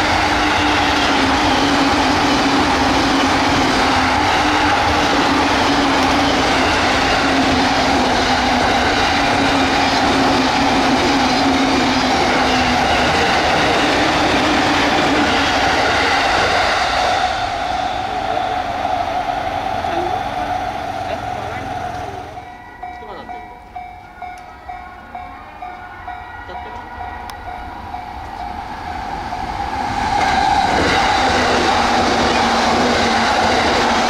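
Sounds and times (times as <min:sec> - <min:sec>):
train motor whine: 0:00.0 - 0:22.5, 0:28.0 - 0:34.0
electric train rolling: 0:00.0 - 0:34.0.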